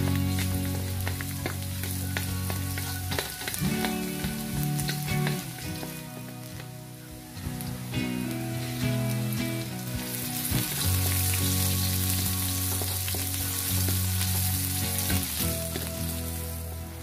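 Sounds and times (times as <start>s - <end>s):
background music: 0.0s - 17.0s
garlic sizzling in hot oil: 0.0s - 17.0s.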